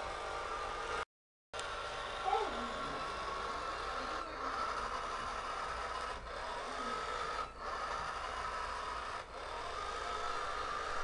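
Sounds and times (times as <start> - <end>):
toy motor and treads whirring: 0.0 - 11.0.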